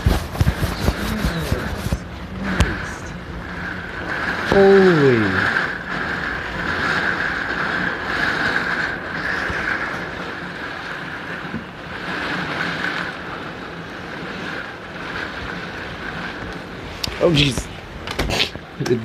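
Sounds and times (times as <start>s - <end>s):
gusty wind: 0.0s - 19.0s
heavy rain: 0.0s - 19.0s
wind buffeting microphone: 0.0s - 19.0s.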